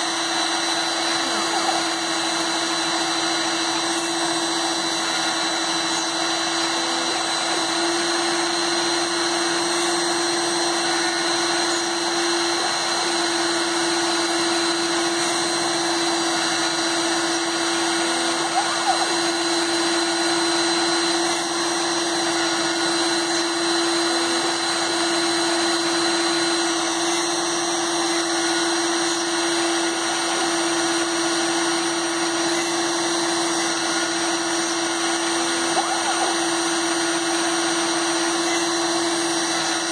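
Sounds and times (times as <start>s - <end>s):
rotary tool drilling with whine: 0.0s - 39.9s.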